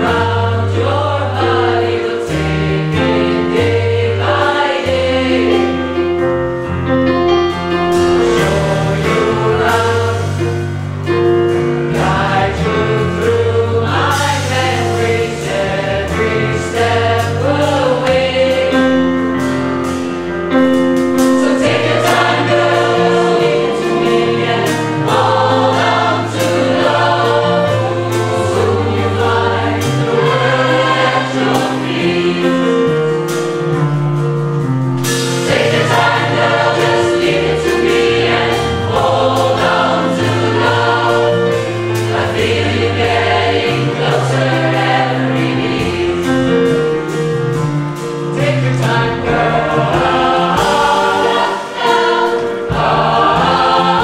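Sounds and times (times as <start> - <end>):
mixed choir singing pop song: 0.0 - 33.8, 35.0 - 54.0
drum kit and cymbals: 0.0 - 54.0
keyboard: 0.0 - 54.0.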